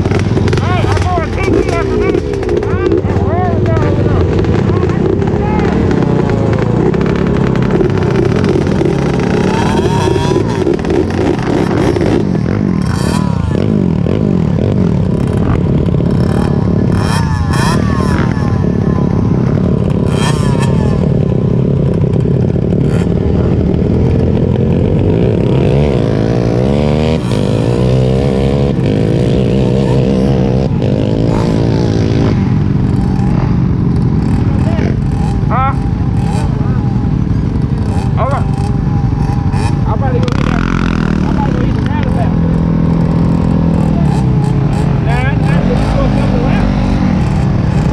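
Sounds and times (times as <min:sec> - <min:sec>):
clatter: 0:00.0 - 0:47.9
off-road engines revving: 0:00.0 - 0:47.9.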